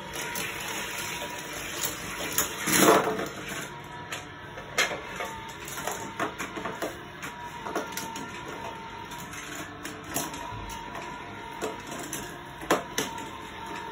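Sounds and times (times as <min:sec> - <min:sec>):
toy cars rattling on plastic track: 0:00.0 - 0:07.0, 0:07.6 - 0:13.9.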